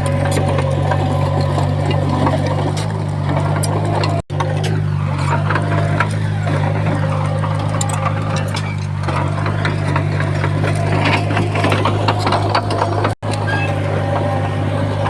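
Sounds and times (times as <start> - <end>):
heavy diesel engine running: 0.0 - 15.0
metal clanks and rattles: 0.0 - 15.0.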